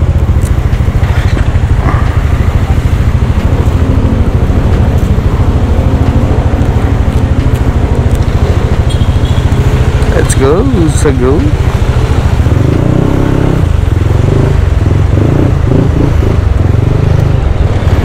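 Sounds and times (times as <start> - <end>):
scooter engine idling: 0.0 - 13.0, 13.6 - 18.0.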